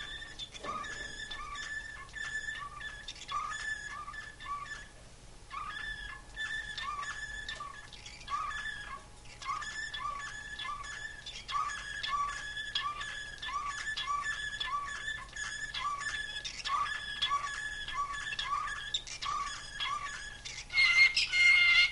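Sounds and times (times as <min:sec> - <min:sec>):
canary singing: 0:00.0 - 0:21.9.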